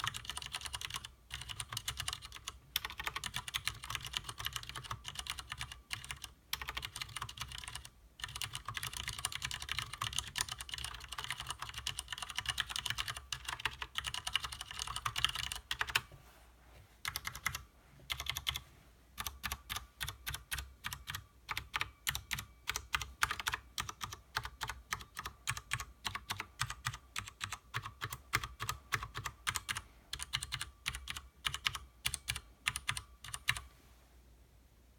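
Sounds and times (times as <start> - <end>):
typing on mechanical keyboard: 0.0 - 16.1, 17.0 - 18.6, 19.2 - 33.7.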